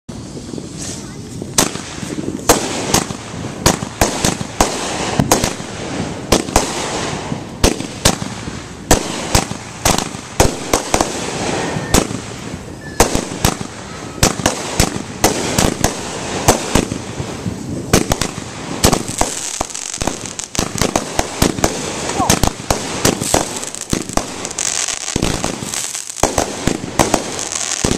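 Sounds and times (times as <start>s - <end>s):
firework bangs: 0.1s - 27.9s
firework launches and bursts: 0.1s - 27.9s.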